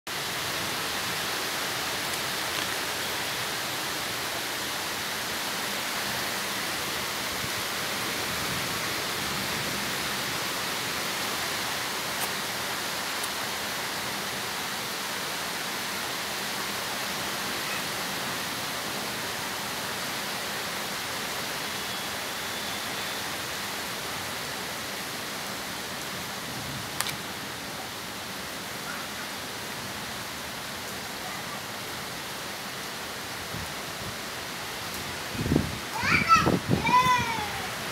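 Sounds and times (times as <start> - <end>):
rain falling: 0.1 - 37.9.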